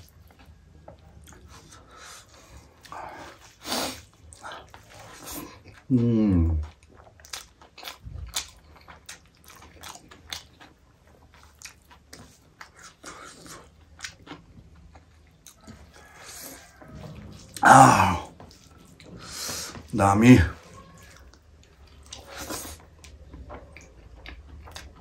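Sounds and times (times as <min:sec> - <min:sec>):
wet chewing and lip smacking: 0:00.0 - 0:06.0, 0:06.6 - 0:17.6, 0:18.2 - 0:19.9, 0:20.6 - 0:25.0.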